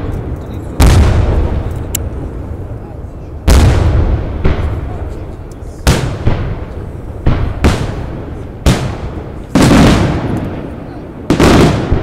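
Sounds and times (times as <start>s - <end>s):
firework shells booming: 0.0s - 2.1s, 3.4s - 12.0s.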